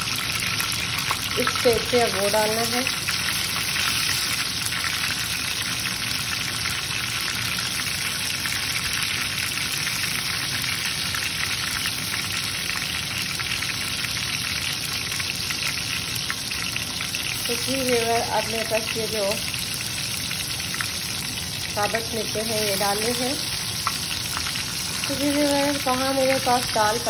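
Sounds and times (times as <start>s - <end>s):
spices sizzling in hot ghee: 0.0s - 27.0s.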